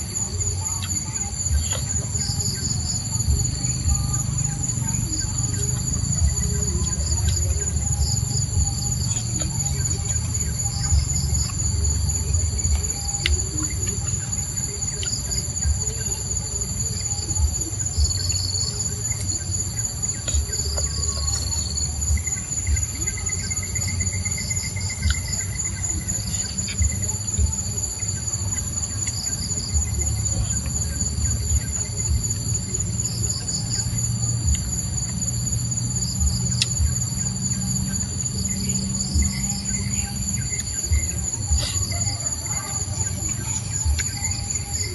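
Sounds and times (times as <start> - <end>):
insects buzzing and trilling: 0.0 - 44.9
low rumble with soft thumps: 3.2 - 39.6.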